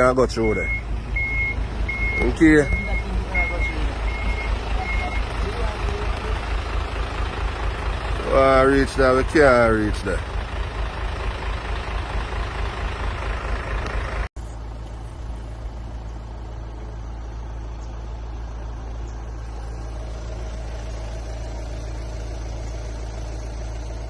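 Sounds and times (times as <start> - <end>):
low vehicle engine rumble: 0.0 - 24.0.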